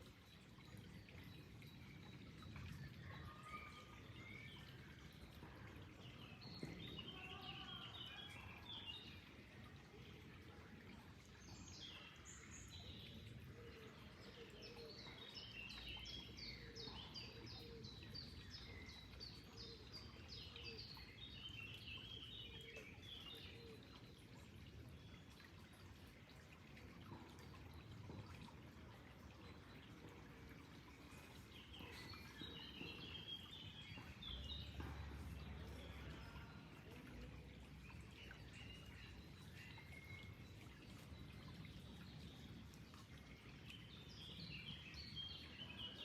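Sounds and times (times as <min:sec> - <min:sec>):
flowing water: 0:00.0 - 0:46.0
songbirds chirping: 0:00.0 - 0:46.0.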